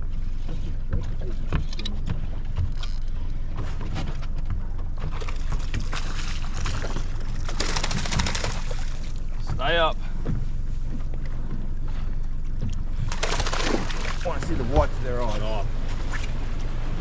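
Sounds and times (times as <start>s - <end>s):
boat low rumble: 0.0s - 17.0s.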